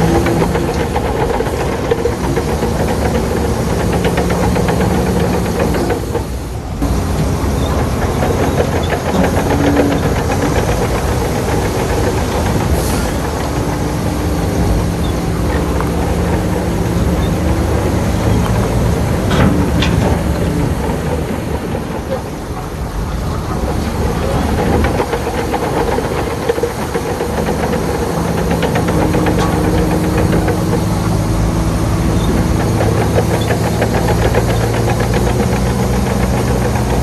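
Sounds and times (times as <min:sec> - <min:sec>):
bulldozer diesel engine running: 0:00.0 - 0:37.0
steel tracks rattling and clanking: 0:00.0 - 0:37.0.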